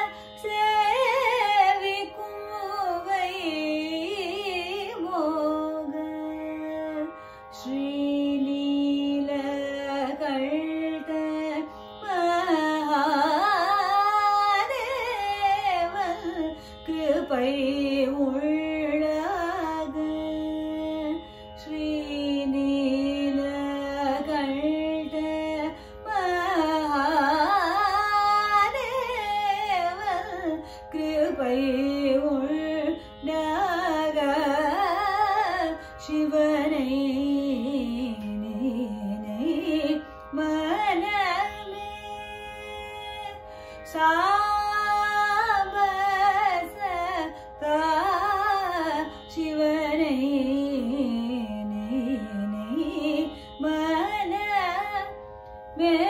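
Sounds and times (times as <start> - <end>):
woman singing: 0.0 - 56.0.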